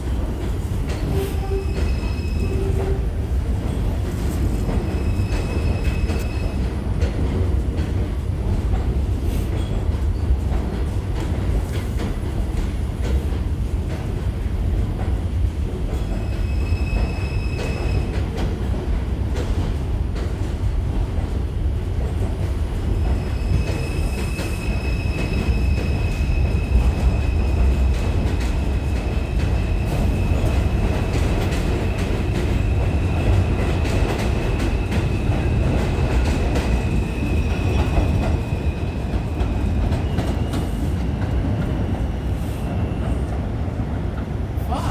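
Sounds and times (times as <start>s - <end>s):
subway train rumbling on rails: 0.0s - 44.9s.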